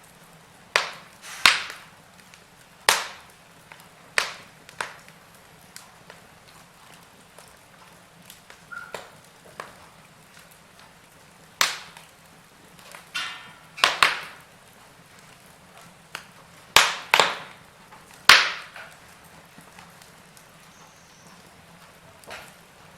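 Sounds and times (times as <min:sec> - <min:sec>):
gas hissing from burning wood: 0:00.0 - 0:22.9
wood fire crackling and popping: 0:00.0 - 0:22.9.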